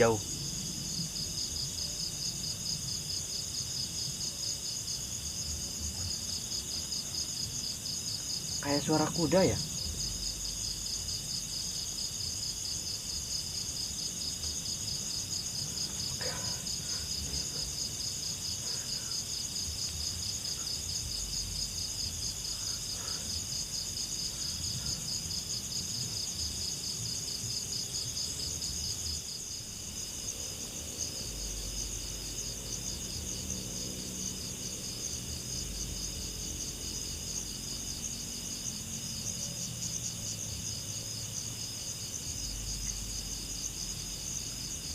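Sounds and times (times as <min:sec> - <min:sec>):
crickets and insects trilling: 0:00.0 - 0:44.9.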